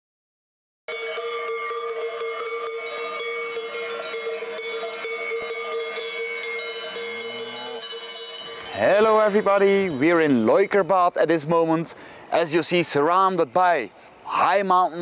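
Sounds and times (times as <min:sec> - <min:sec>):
cowbells clanging: 0:00.9 - 0:13.8.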